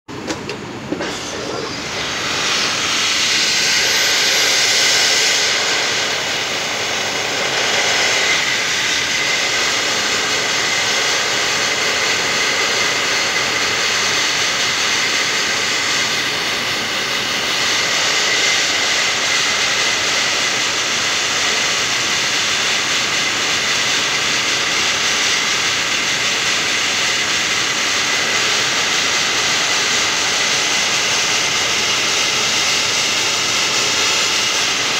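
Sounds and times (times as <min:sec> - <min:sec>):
abrasive blasting hiss: 0:00.9 - 0:34.9.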